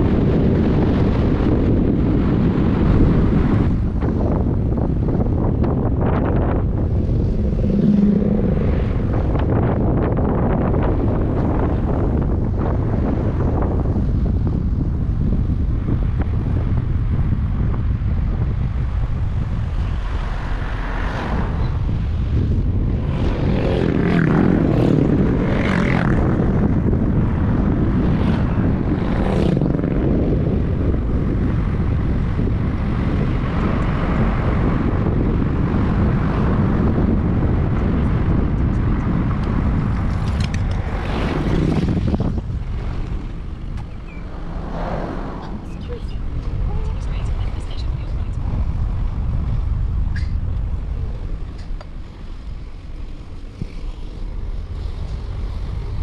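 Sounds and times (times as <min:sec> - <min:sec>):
moving vehicle rumble: 0:00.0 - 0:56.0.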